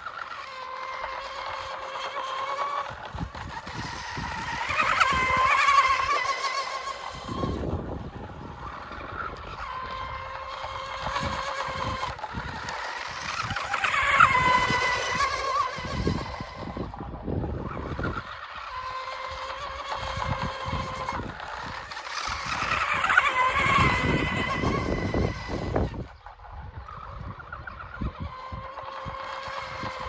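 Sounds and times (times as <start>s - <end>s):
model boat motor whining: 0.0s - 30.0s.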